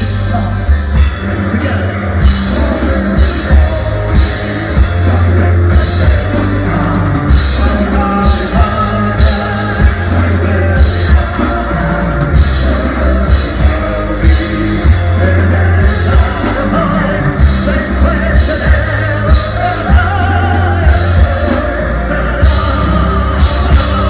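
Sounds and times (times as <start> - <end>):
heavy metal band playing: 0.0 - 24.0
person singing: 0.0 - 24.0.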